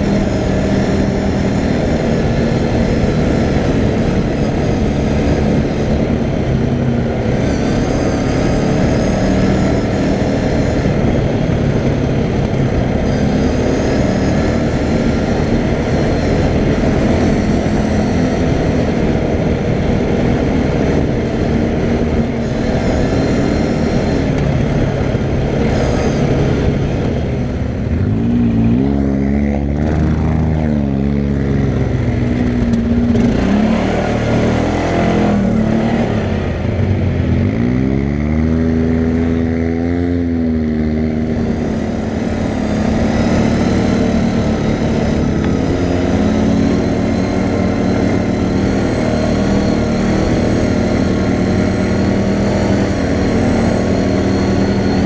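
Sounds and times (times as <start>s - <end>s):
atv engine running hard: 0.0s - 55.0s
wind noise on microphone: 0.0s - 55.0s.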